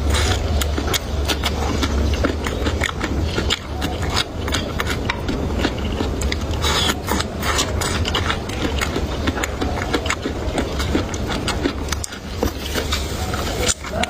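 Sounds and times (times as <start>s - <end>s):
chewing sounds: 0.0s - 14.0s
low steady hum: 0.0s - 14.0s.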